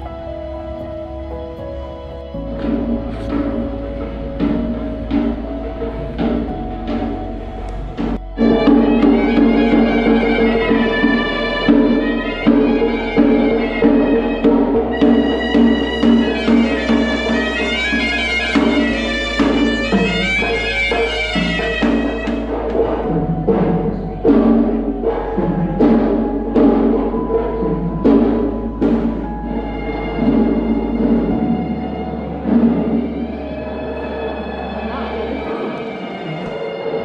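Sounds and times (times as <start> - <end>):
shrill reed pipe melody: 0.0 - 37.0
drums beaten in fast rhythm: 2.2 - 33.7.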